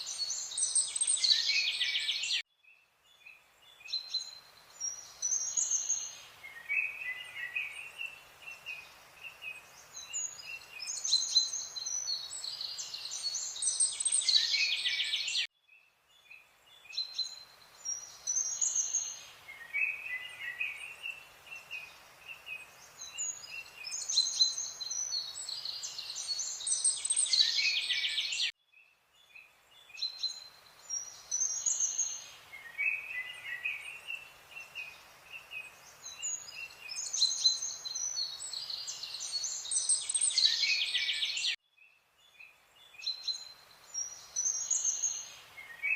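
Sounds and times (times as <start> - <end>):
birds chirping and trilling: 0.0 - 45.9
faint steady hiss: 0.0 - 45.9.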